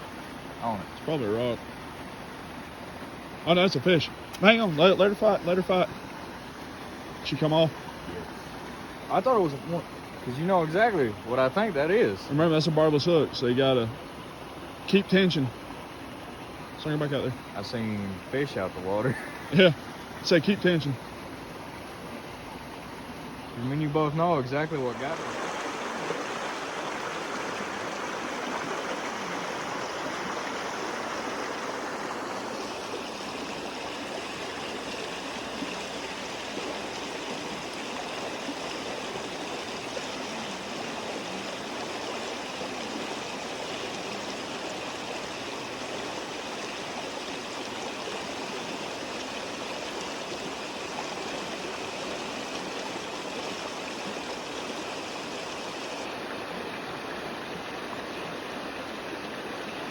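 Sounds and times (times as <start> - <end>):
creek water rushing over rocks: 0.0 - 59.9.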